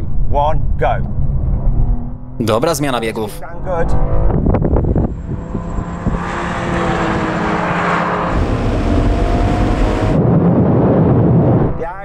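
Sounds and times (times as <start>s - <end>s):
car engines accelerating: 0.0s - 12.0s
wind and tyre noise: 0.0s - 12.0s.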